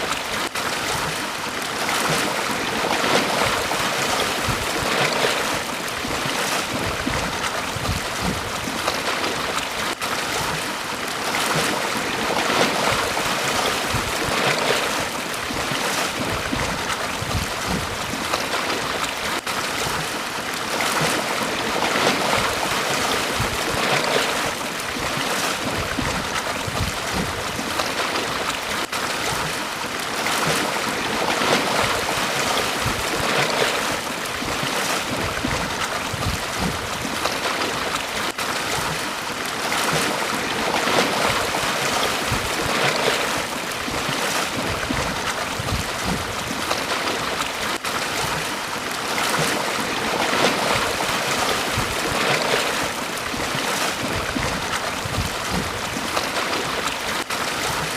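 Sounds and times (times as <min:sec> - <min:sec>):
small waves washing onto beach: 0:00.0 - 0:57.9
wind on microphone: 0:02.0 - 0:09.6, 0:11.5 - 0:19.1, 0:21.0 - 0:29.6, 0:30.4 - 0:38.0, 0:39.9 - 0:47.4, 0:49.3 - 0:56.9.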